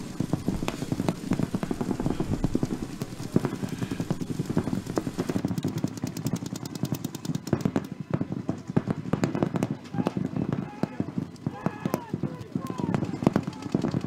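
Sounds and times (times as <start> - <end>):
paintball markers firing: 0.0 - 14.0.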